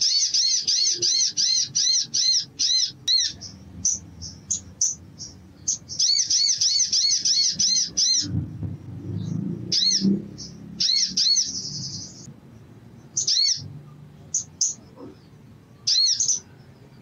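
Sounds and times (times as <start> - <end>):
bird high chirps: 0.0 - 8.4, 9.1 - 12.3, 13.0 - 17.0
low rumbling noise: 2.5 - 17.0.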